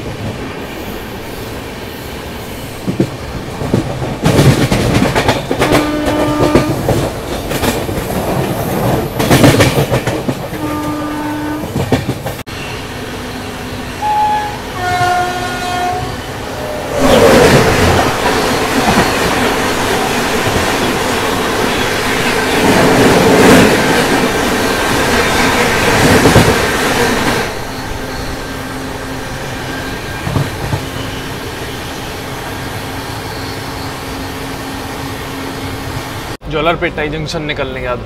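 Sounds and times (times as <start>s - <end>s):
train wheels rushing on track: 0.0s - 38.0s.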